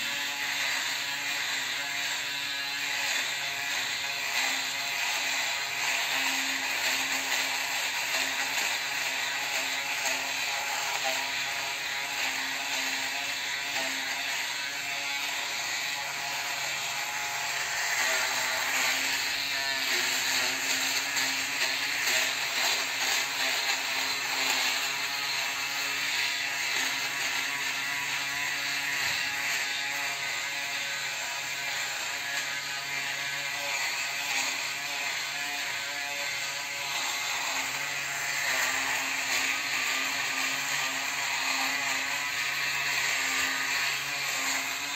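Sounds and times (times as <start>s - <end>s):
electric shaver buzzing: 0.0s - 44.9s.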